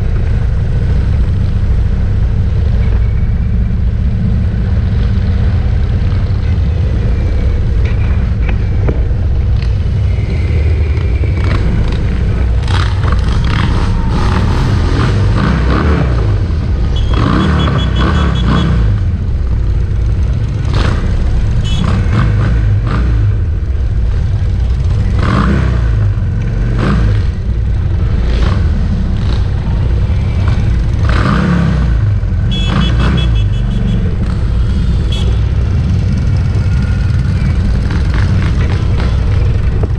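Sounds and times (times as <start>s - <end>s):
motorcycle engines droning: 0.0s - 39.9s
motorcycle engine revs and pops: 7.7s - 39.9s.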